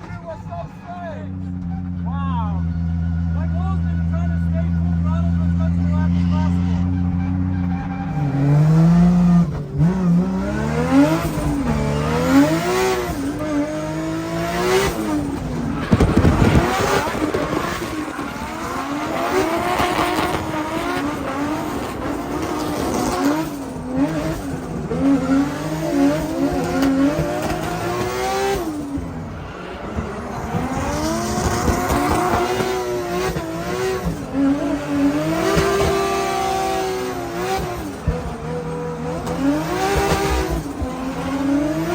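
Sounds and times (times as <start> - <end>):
car engine revving: 0.0 - 41.9
tyres squealing: 1.5 - 36.5.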